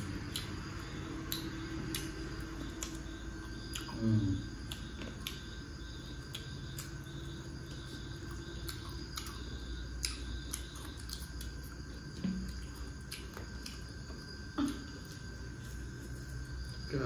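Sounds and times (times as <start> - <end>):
wet chewing and lip smacks: 0.1 - 16.8.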